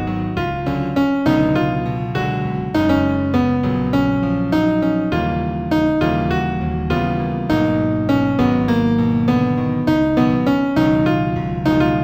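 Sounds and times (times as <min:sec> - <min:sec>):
solo piano: 0:00.0 - 0:12.0.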